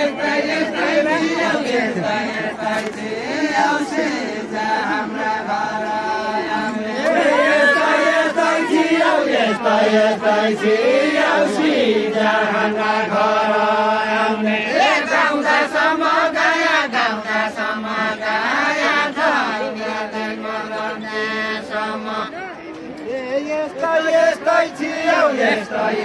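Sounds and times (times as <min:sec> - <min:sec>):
voices singing folk song: 0:00.0 - 0:26.0.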